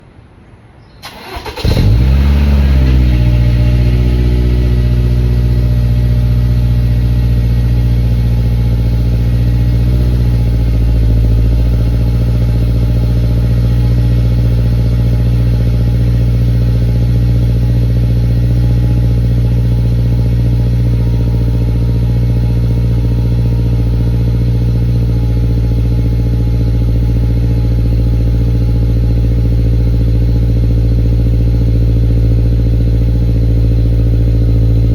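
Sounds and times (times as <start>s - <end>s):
car engine cold start and idle: 0.8s - 34.9s.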